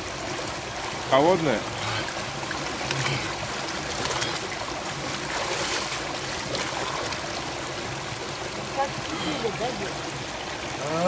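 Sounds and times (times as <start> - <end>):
stream rushing over boulders: 0.0 - 11.0
water splashing: 0.0 - 11.0.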